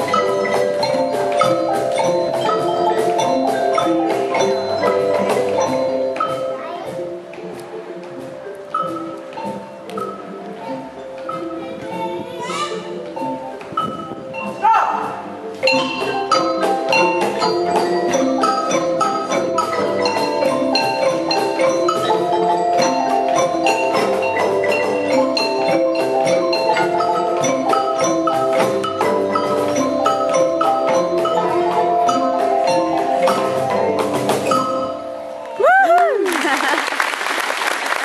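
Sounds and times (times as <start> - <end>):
cajon box drum beat: 0.0 - 34.8
marimbas playing lively tune: 0.0 - 36.8.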